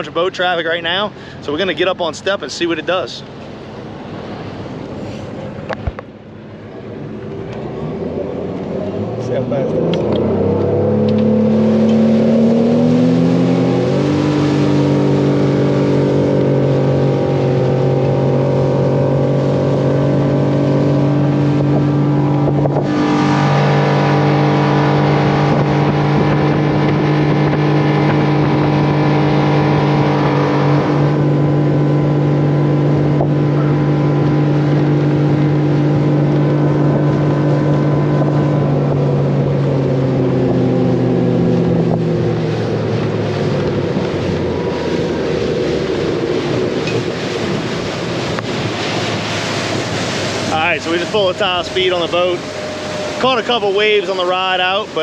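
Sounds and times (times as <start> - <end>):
outboard engine at full throttle: 0.0 - 55.0.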